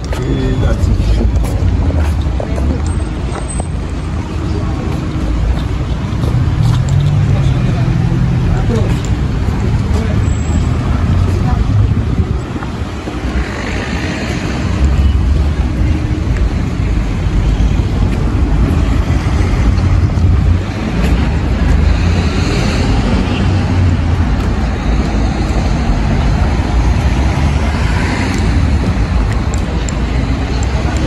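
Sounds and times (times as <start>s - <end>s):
low rumble of street noise: 0.0s - 31.0s.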